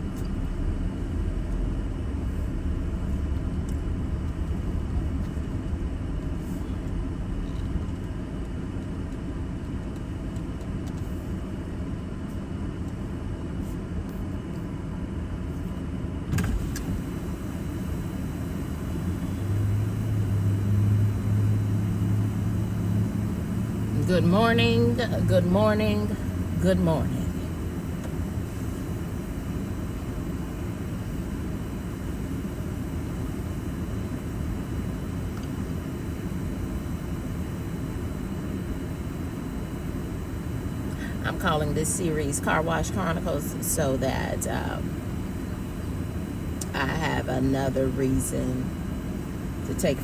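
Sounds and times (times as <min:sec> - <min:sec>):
low hum: 0:00.0 - 0:12.1, 0:16.4 - 0:50.0
car engine and road noise: 0:00.0 - 0:50.0.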